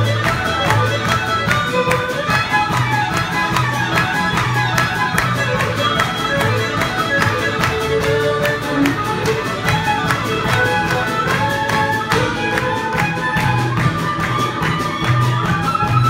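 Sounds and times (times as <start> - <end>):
fiddles playing lively tune: 0.0 - 16.0.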